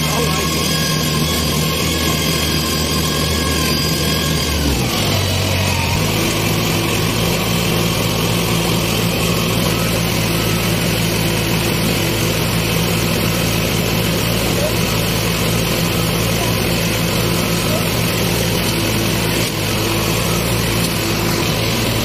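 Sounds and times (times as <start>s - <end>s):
combine harvester engine running: 0.0s - 22.0s.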